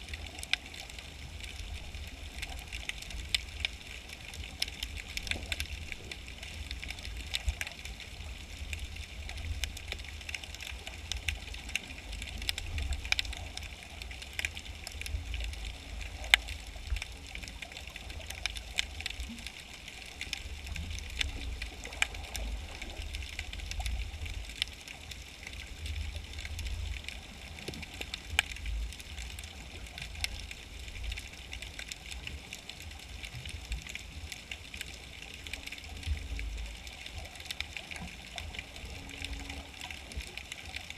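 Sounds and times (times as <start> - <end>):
sharp clicks and crackles: 0.0 - 40.9
underwater water rumble: 0.0 - 40.9.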